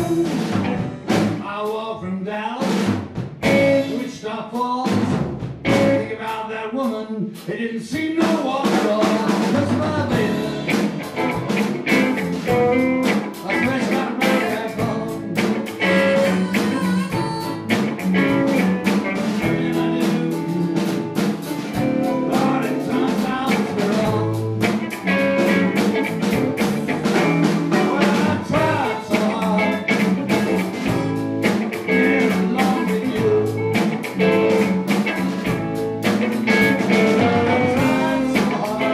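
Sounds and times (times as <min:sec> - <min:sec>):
electric guitar: 0:00.0 - 0:01.4, 0:03.4 - 0:04.1, 0:05.6 - 0:06.2, 0:09.1 - 0:38.9
electric bass: 0:00.0 - 0:01.5, 0:03.0 - 0:04.1, 0:05.0 - 0:06.2, 0:09.4 - 0:38.9
drum kit steady beat: 0:00.0 - 0:38.9.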